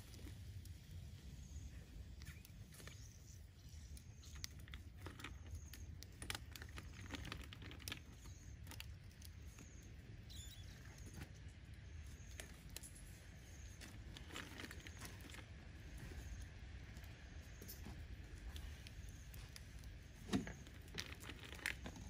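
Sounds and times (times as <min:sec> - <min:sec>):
fire clicks and pops: 0:00.0 - 0:22.0
low steady rumble: 0:00.0 - 0:22.0.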